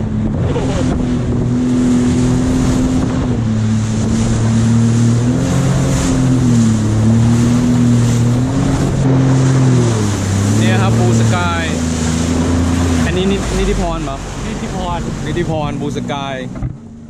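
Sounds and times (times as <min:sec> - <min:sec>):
jet ski engine hum: 0:00.0 - 0:17.0
water spray rushing: 0:01.8 - 0:16.4.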